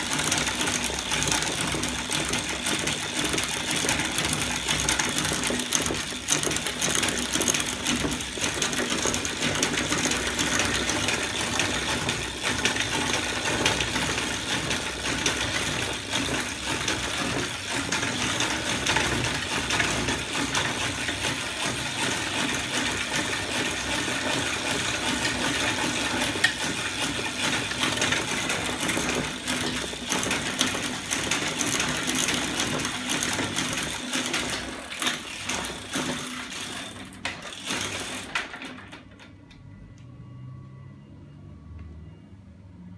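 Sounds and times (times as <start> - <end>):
chain drive mechanical clatter: 0.0 - 39.3.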